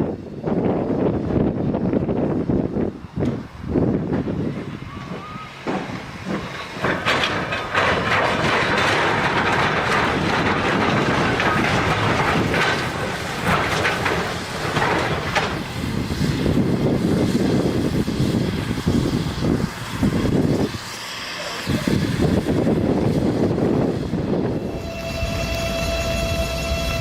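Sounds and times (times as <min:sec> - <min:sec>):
train wheels clattering on track: 0:03.2 - 0:27.0.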